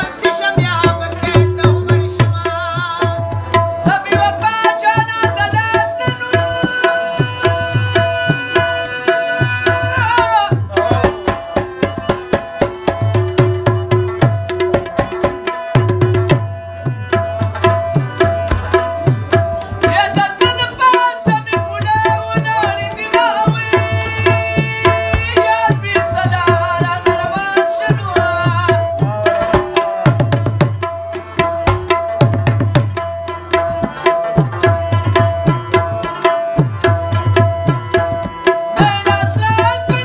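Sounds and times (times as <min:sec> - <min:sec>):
harmonium notes: 0:00.0 - 0:40.0
plucked rabab melody: 0:00.0 - 0:40.0
tabla strokes: 0:00.0 - 0:40.0.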